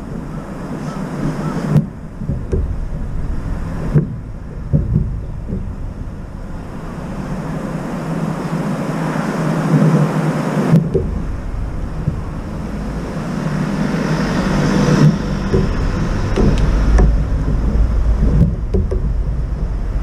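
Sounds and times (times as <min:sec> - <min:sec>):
road traffic: 0:00.0 - 0:20.0
wind rumbling on microphone: 0:00.0 - 0:20.0.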